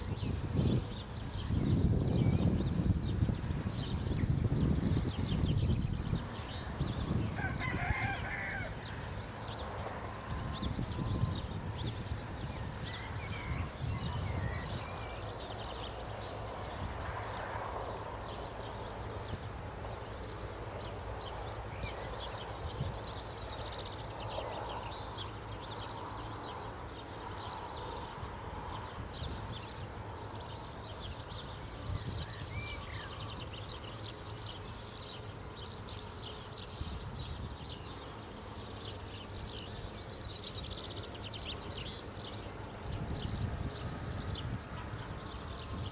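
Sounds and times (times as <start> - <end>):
birds chirping and singing: 0.0 - 45.9.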